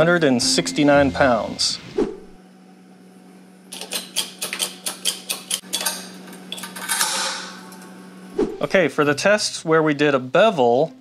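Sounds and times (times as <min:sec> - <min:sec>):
steady low hum: 0:00.0 - 0:03.7, 0:05.9 - 0:11.0.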